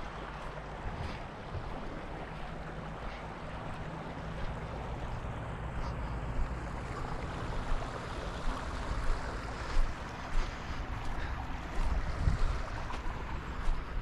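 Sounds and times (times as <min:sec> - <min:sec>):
stream flowing: 0:00.0 - 0:14.0
wind rumbling on microphone: 0:00.0 - 0:14.0.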